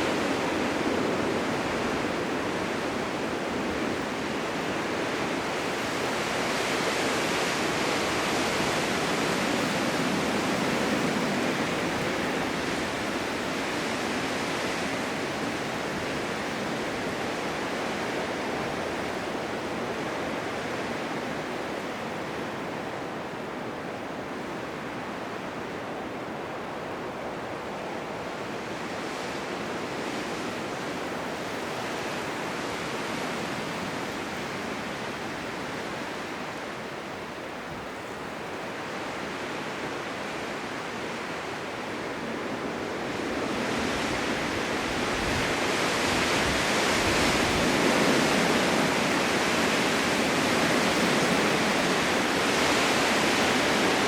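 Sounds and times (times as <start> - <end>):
blizzard wind rushing: 0.0 - 54.0.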